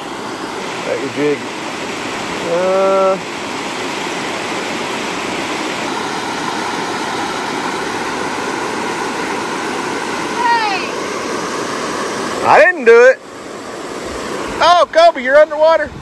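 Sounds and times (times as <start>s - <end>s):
water rushing over rock dam: 0.0s - 16.0s.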